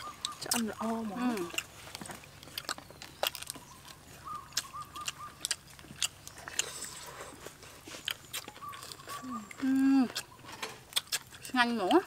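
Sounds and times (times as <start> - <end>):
people crunching and chewing: 0.0 - 12.0.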